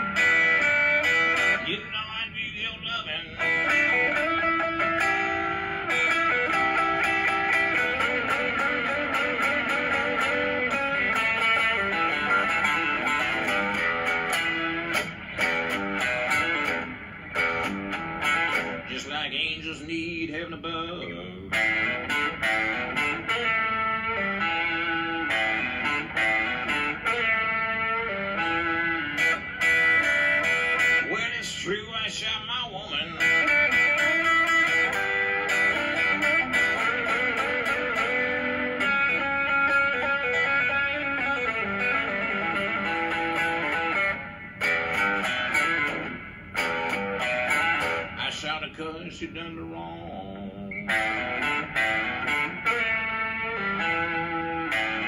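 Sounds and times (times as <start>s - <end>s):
electric guitar blues playing: 0.0s - 55.0s.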